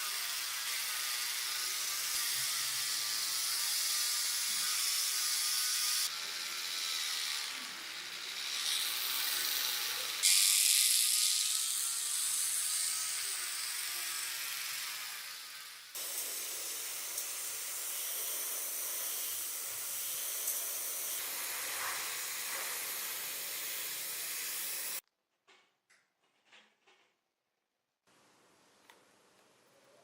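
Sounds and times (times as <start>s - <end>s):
handheld power tool whirring: 0.0s - 25.0s.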